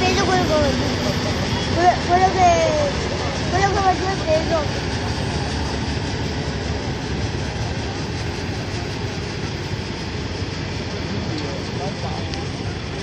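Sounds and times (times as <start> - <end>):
tractor diesel engine rumbling: 0.0 - 13.0.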